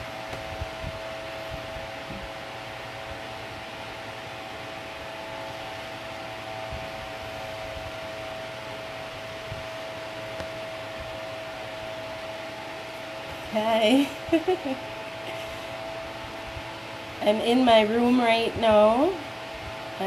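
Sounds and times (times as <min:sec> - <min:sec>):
mid-pitched hum: 0:00.0 - 0:20.0.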